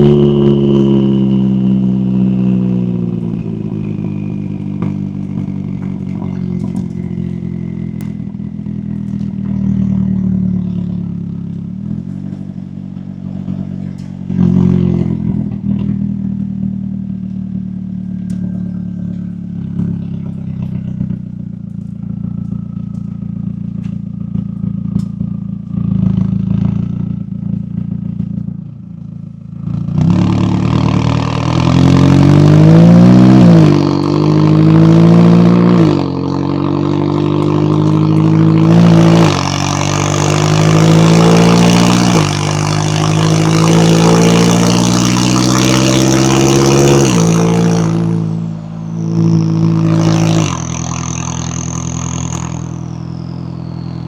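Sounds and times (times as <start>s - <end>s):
car engine exhaust revving: 0.0s - 54.0s.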